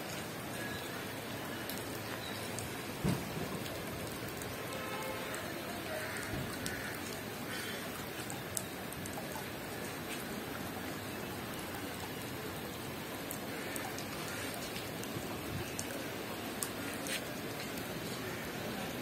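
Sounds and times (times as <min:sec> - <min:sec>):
rain falling on water and paving: 0:00.0 - 0:19.0
water drips ticking: 0:00.0 - 0:19.0.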